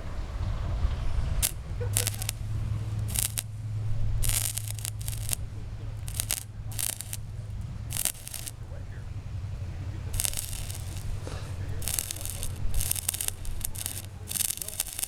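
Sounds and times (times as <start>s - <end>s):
welding arc sputtering crackle: 0.7s - 15.0s.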